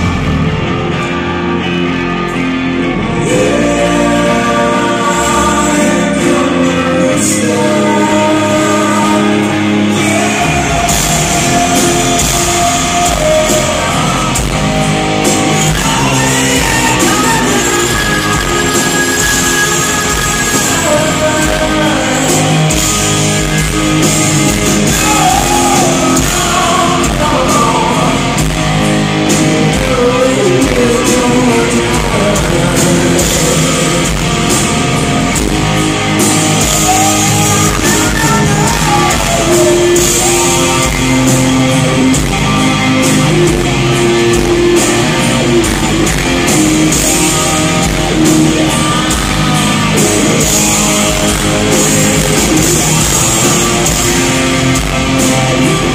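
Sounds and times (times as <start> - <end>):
person singing lead vocal: 0.0 - 55.9
rock band playing live: 0.0 - 55.9.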